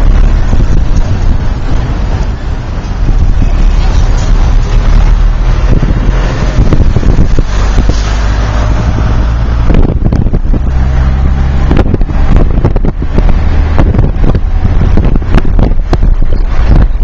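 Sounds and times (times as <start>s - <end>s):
car engine and road noise: 0.0s - 17.0s
wind buffeting microphone: 0.0s - 17.0s.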